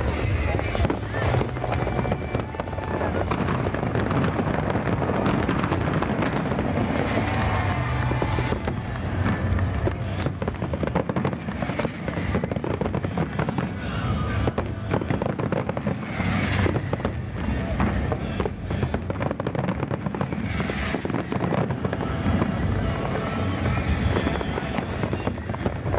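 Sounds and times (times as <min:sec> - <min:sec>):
fireworks crackling and popping: 0:00.0 - 0:25.9.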